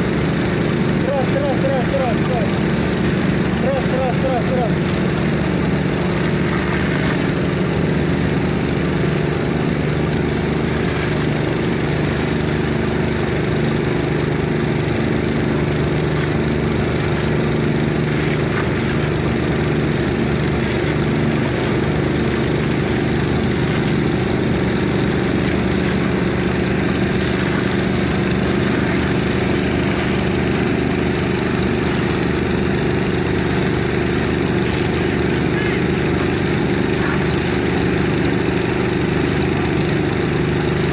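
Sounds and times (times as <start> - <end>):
engine droning steadily: 0.0 - 40.9.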